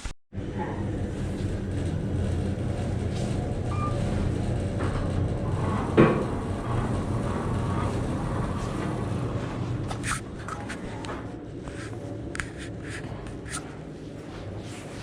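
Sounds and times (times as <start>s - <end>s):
elevator mechanical hum: 0.4s - 15.0s.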